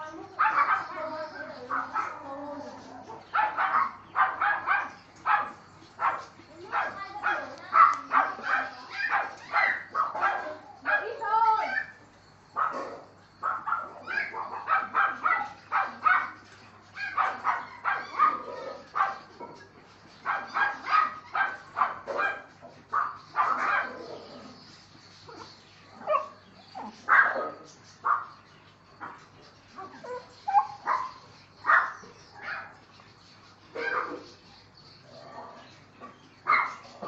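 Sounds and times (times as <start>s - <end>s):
dogs barking: 0.0s - 33.0s, 33.6s - 37.0s.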